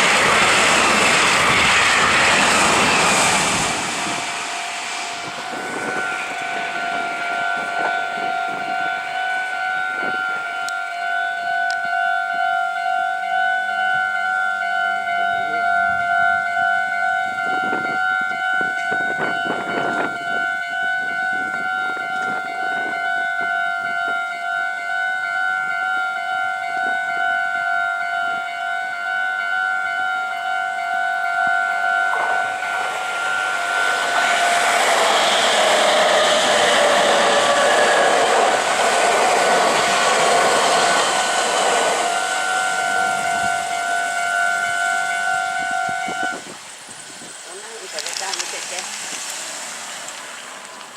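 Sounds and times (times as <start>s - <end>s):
train wheels rumbling on rail: 0.0s - 12.4s, 14.8s - 25.5s, 26.2s - 50.9s.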